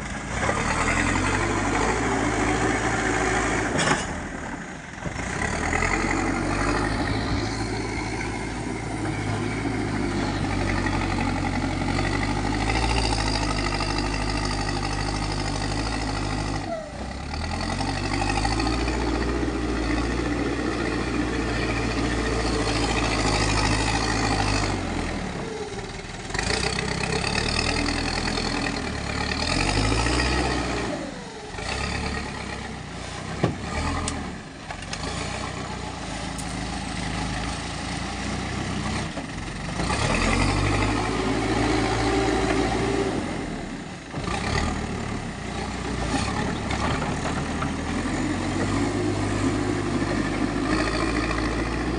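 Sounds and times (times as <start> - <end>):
diesel engine working hard: 0.0 - 51.9.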